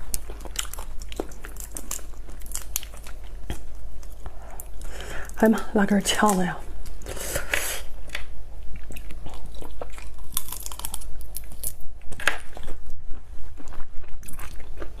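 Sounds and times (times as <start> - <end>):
chewing shrimp: 0.0 - 5.4, 6.2 - 15.0.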